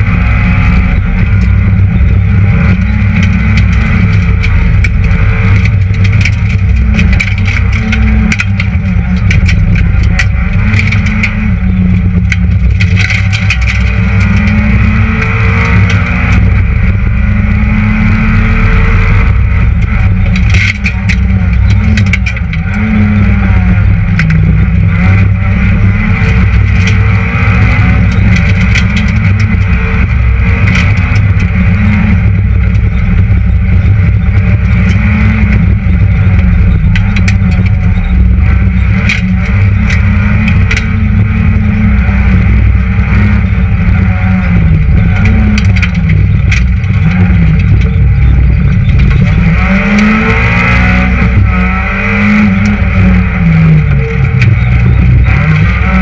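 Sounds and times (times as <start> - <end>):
car engine revving: 0.0 - 56.0
knocks and clatter: 0.0 - 56.0.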